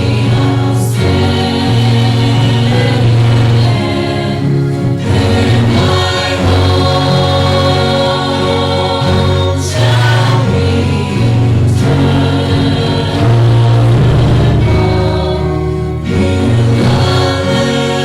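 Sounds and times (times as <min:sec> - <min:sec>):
hymn singing with accompaniment: 0:00.0 - 0:18.0.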